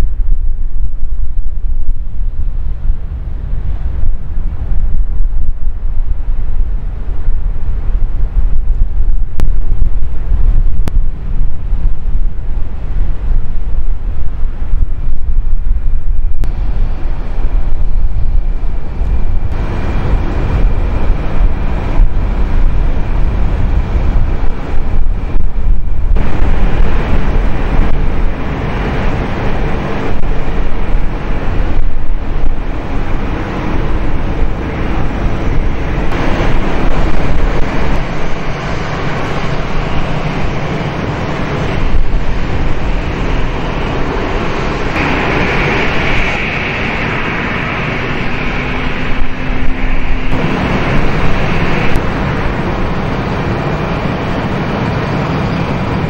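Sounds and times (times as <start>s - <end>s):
distant airport rumble: 0.0s - 56.0s
wind buffeting microphone: 0.0s - 56.0s.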